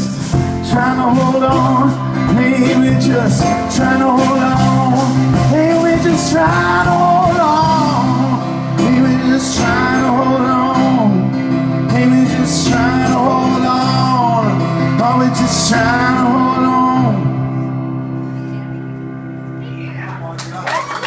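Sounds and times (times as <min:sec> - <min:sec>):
person singing: 0:00.0 - 0:18.7
live band playing: 0:00.0 - 0:21.0.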